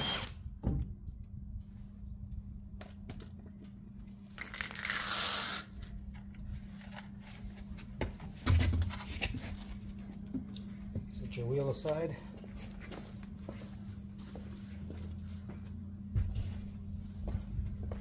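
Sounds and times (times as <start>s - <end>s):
steady low hum: 0.0s - 5.0s, 5.6s - 18.0s.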